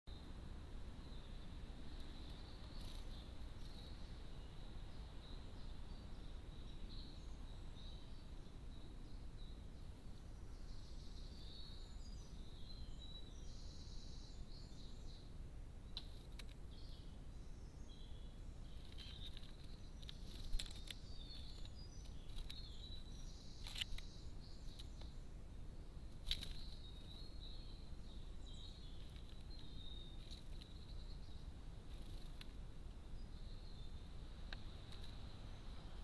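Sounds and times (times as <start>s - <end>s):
faint background hiss: 0.1s - 36.0s
small birds chirping: 0.1s - 36.0s.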